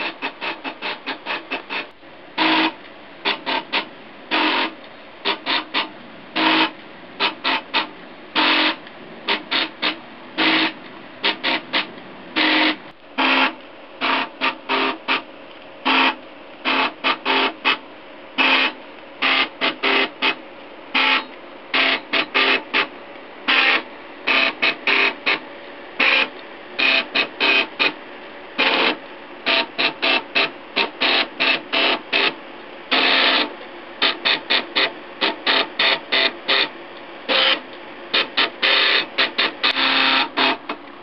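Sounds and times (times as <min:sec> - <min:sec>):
stepper motors buzzing: 0:00.0 - 0:15.2, 0:15.8 - 0:17.8, 0:18.4 - 0:22.9, 0:23.5 - 0:25.4, 0:26.0 - 0:28.0, 0:28.6 - 0:36.7, 0:37.3 - 0:40.8
faint steady hum: 0:00.0 - 0:41.0.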